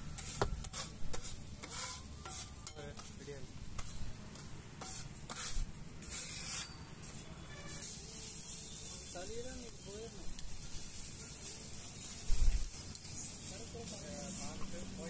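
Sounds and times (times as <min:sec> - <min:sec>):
light sizzle: 0:00.0 - 0:15.0
metal spatula scraping griddle: 0:00.0 - 0:15.0.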